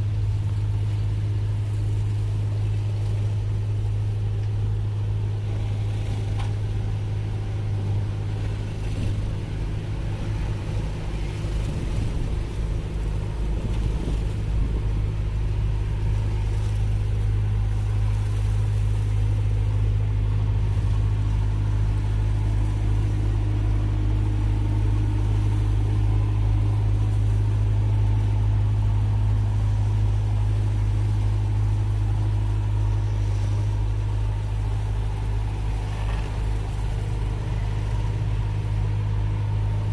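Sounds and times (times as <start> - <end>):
engine drone inside vehicle cab: 0.0 - 39.9.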